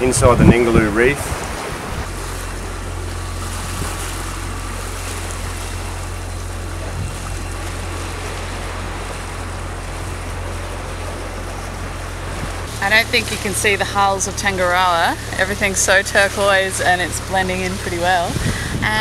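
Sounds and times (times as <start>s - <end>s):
low rumble: 0.0s - 19.0s
water rushing along hulls: 0.0s - 19.0s.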